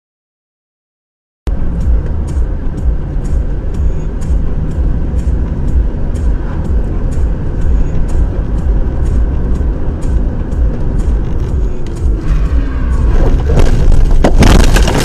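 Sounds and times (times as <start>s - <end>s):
engine and tyre rumble: 1.5s - 15.0s.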